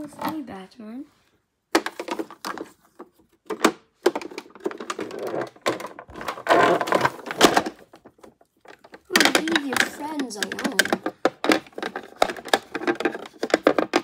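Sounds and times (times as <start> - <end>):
plastic toy parts clattering: 1.8 - 14.0.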